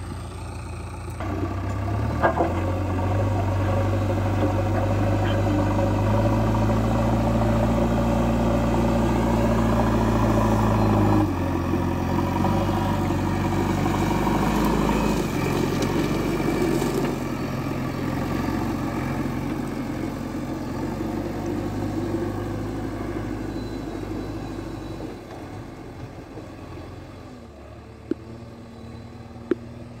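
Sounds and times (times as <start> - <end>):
backhoe diesel engine: 0.0 - 30.0.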